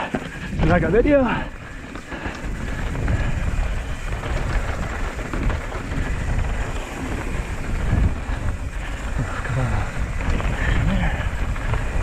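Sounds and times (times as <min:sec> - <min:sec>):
bike rattling: 0:00.0 - 0:12.0
bike tyres crunching on dirt: 0:00.0 - 0:12.0
wind rumble on microphone: 0:00.0 - 0:12.0.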